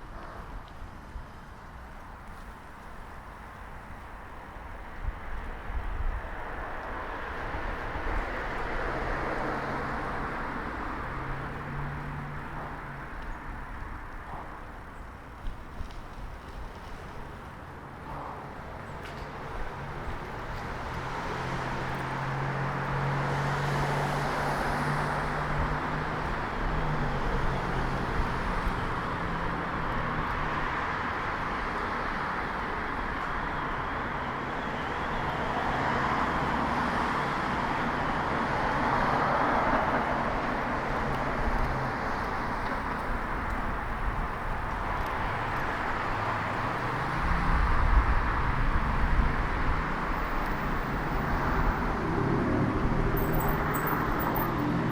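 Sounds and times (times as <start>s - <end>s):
road traffic noise: 0.0s - 54.9s.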